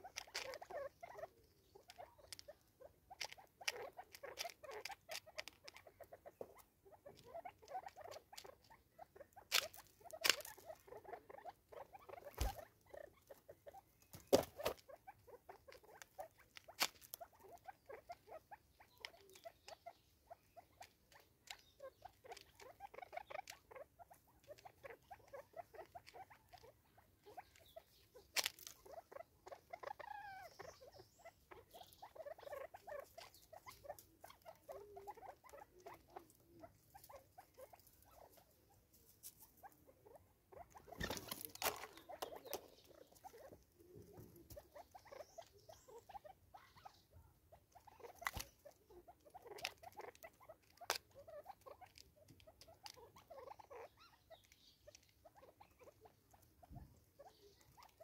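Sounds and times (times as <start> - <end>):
birds pecking taps and clicks: 0.0 - 10.9, 12.2 - 38.6, 40.8 - 45.9, 47.7 - 53.3, 53.9 - 58.0.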